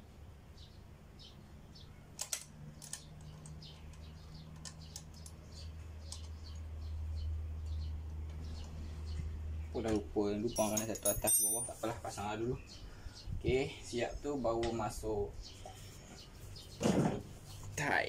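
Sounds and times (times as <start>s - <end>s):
birds chirping: 0.5s - 18.0s.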